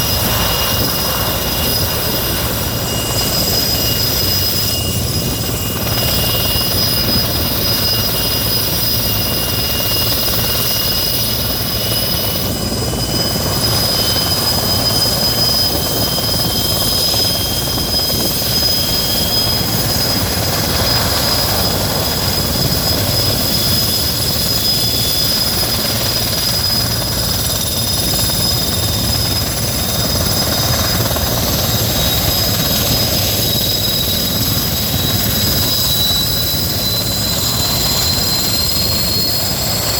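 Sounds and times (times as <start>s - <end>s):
helicopter rotor noise: 0.0s - 39.9s
high-pitched turbine whines: 0.0s - 39.9s.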